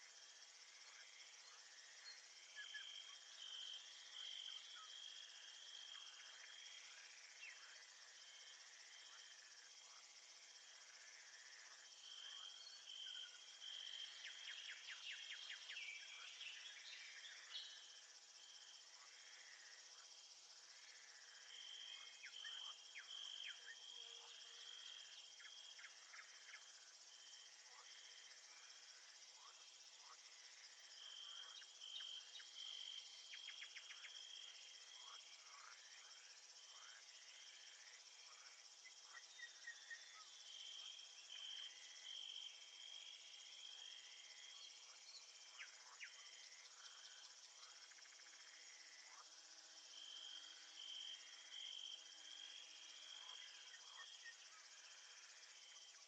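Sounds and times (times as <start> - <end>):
crickets chirping: 0.0 - 56.0
insect noise: 0.0 - 56.0.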